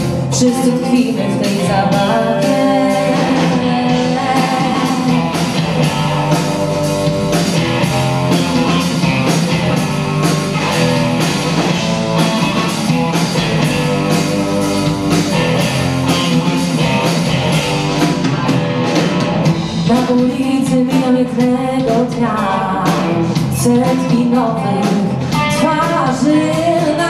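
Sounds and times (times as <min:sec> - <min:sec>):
rock band playing instrumental: 0:00.0 - 0:27.0.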